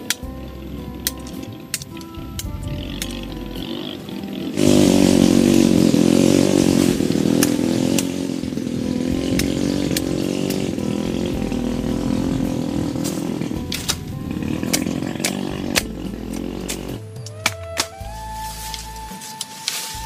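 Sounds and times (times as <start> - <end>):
small petrol engine running: 0.0 - 17.1.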